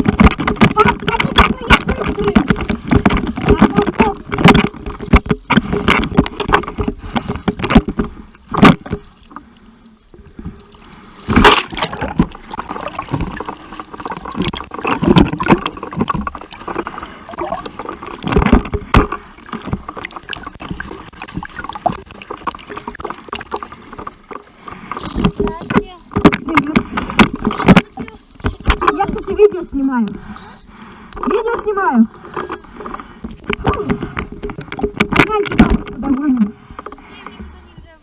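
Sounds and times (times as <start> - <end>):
seawater splashing and sloshing: 0.0 - 38.0
water gurgling: 0.0 - 38.0.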